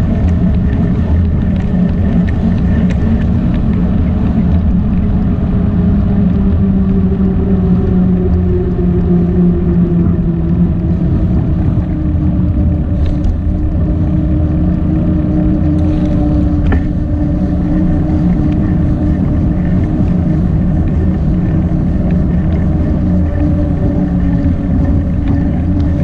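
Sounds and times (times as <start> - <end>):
small engine humming: 0.0 - 26.0.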